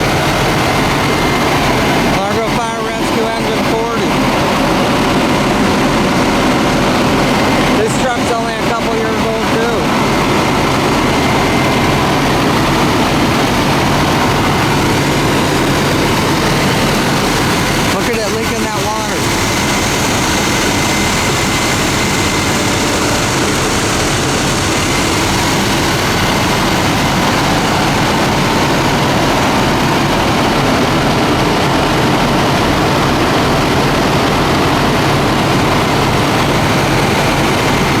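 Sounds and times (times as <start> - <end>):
fire engine running: 0.0 - 38.0.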